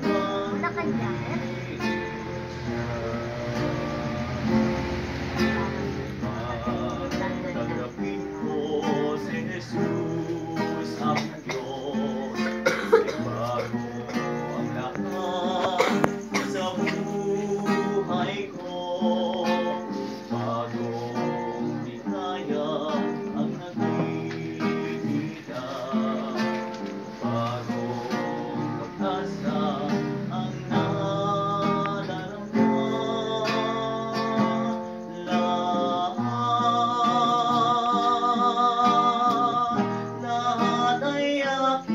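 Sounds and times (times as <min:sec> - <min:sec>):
acoustic guitar strumming: 0:00.0 - 0:41.9
group of people singing: 0:00.0 - 0:41.9.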